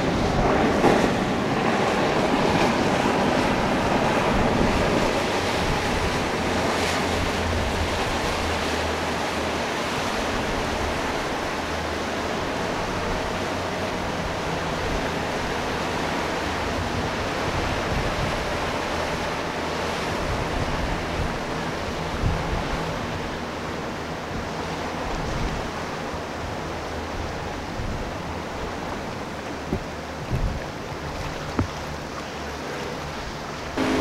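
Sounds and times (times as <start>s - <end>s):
outboard motors droning: 0.0s - 34.0s
water churning: 0.0s - 34.0s.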